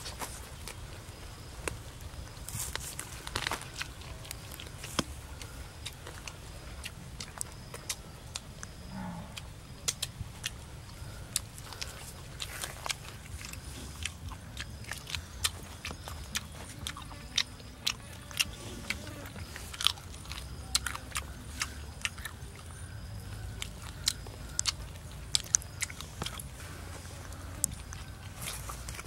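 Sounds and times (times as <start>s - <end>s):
crunching and smacking chewing: 0.0s - 29.0s
low steady rumble: 0.0s - 29.0s.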